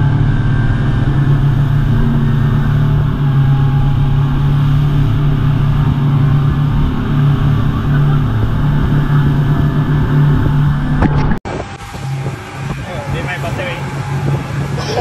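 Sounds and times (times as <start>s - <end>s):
rushing water noise: 0.0s - 15.0s
speedboat engine drone: 0.0s - 15.0s.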